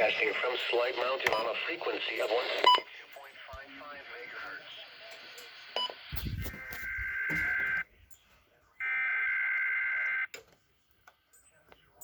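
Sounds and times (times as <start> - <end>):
faint radio noise: 0.0 - 12.0.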